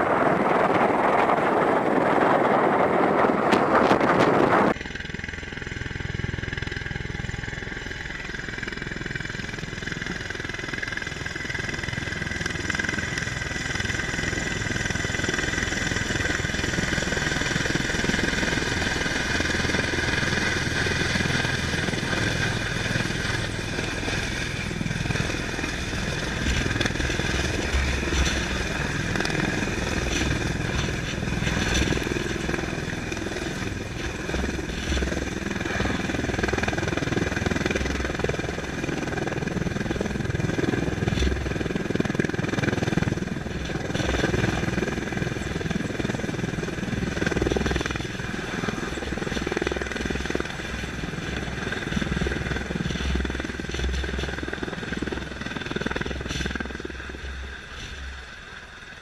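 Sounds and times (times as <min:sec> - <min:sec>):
turbine whine: 0:00.0 - 0:59.0.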